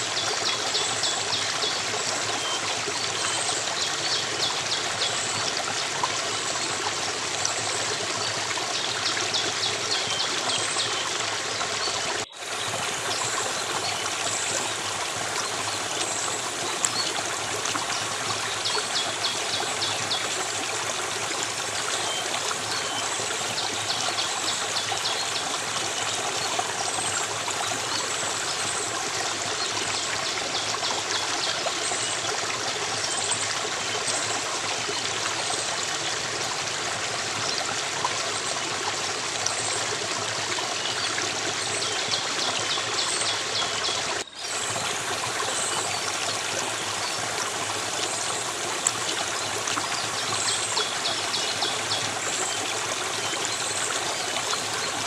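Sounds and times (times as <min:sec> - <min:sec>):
stream water trickling: 0:00.0 - 0:55.0.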